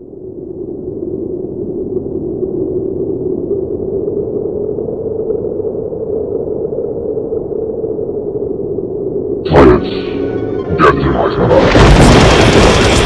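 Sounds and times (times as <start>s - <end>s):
muffled low drone: 0.0s - 13.0s.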